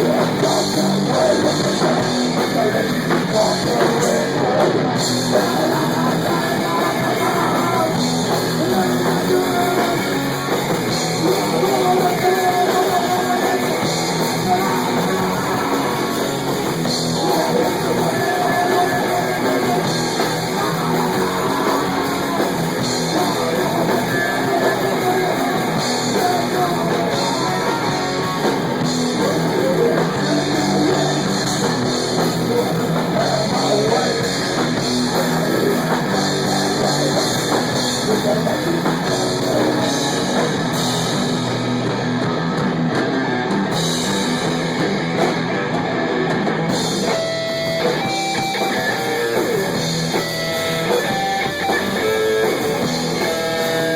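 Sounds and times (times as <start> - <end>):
distorted electric guitar: 0.0 - 53.9
drum kit: 0.0 - 53.9.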